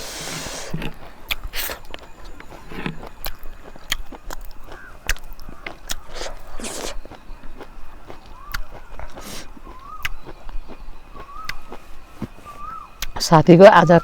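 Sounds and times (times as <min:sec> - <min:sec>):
person chewing: 0:00.0 - 0:13.2
mouth clicks and lip smacks: 0:00.7 - 0:11.8, 0:13.0 - 0:13.2.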